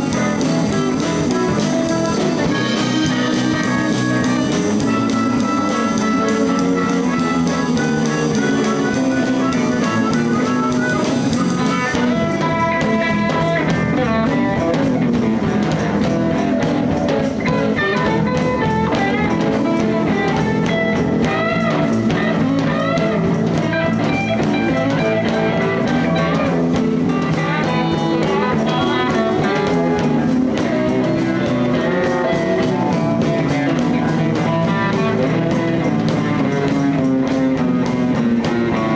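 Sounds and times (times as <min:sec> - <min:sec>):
bass guitar: 0:00.0 - 0:38.9
drum kit: 0:00.0 - 0:38.9
lead guitar solo with bent notes: 0:00.0 - 0:38.9.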